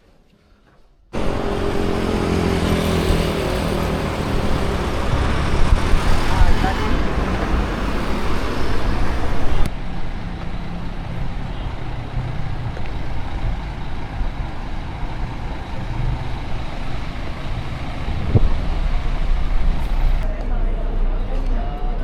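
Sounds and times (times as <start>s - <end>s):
motor vehicle rumble: 1.1s - 22.0s.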